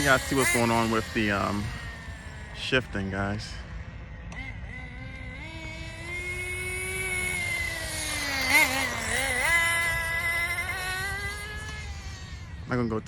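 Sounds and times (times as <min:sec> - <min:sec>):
rc car engine running: 0:00.0 - 0:13.0.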